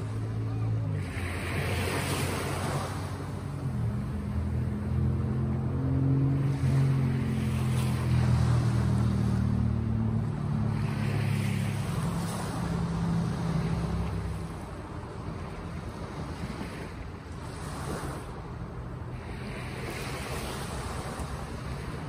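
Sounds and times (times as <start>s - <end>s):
low steady engine hum: 0.0s - 22.0s
sea waves washing onto shore: 0.0s - 22.0s.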